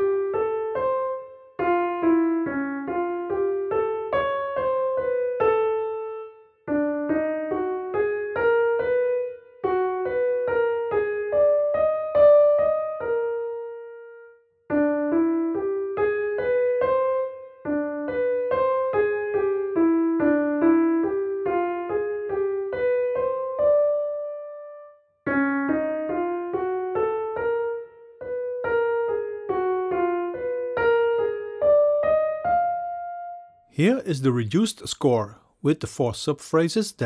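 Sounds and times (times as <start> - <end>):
solo piano atonal melody: 0.0 - 34.2.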